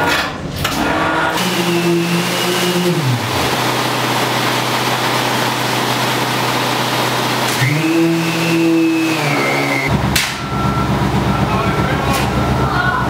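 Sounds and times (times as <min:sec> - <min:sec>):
truck engine revving: 0:00.0 - 0:12.8.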